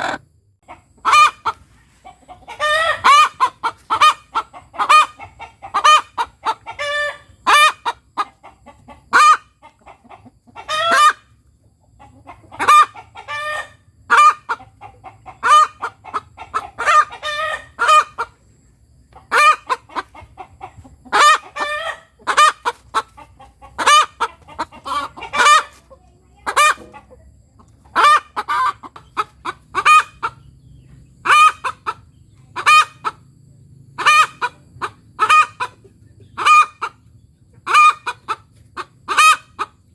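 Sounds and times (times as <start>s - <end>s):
hen cackling: 0.0s - 30.6s, 31.2s - 33.3s, 33.9s - 39.9s.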